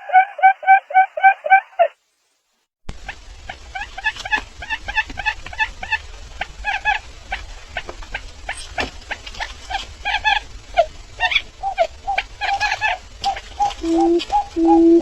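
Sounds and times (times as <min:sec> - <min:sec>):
bird chirping: 0:00.0 - 0:02.0, 0:03.1 - 0:15.0
steady low hum: 0:02.9 - 0:15.0.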